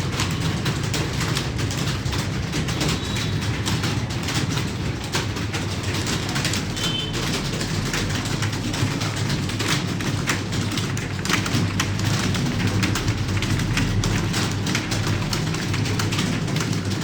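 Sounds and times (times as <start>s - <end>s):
keyboards clattering: 0.0s - 17.0s.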